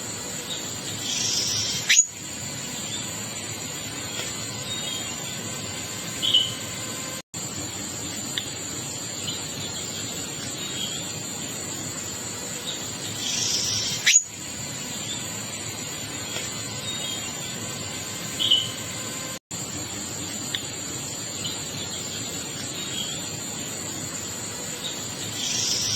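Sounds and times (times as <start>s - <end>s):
high insect drone: 0.0s - 25.9s.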